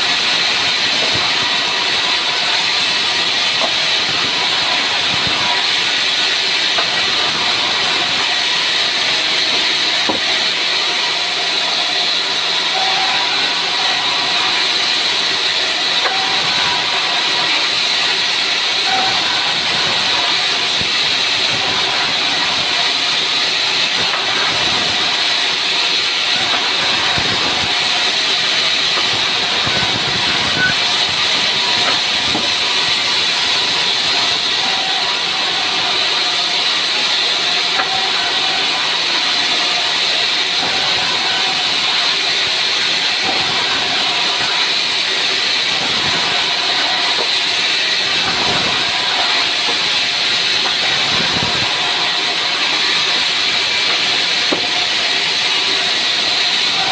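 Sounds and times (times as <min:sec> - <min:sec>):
saw cutting wood: 0:00.0 - 0:56.9.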